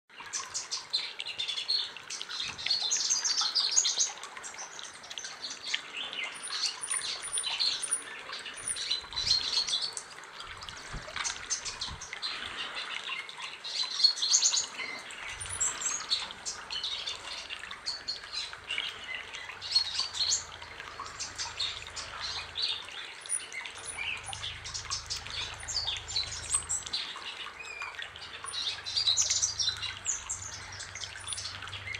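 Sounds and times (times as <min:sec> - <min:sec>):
bird twittering song: 0:00.1 - 0:31.9.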